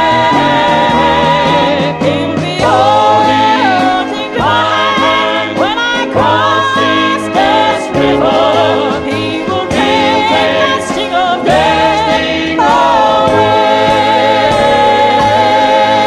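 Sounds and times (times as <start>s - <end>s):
vocal group singing in harmony: 0.0s - 16.0s.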